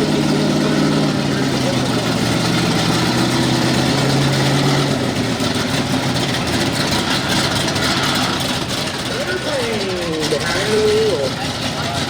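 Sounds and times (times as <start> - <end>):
loud truck engine running: 0.0 - 12.0.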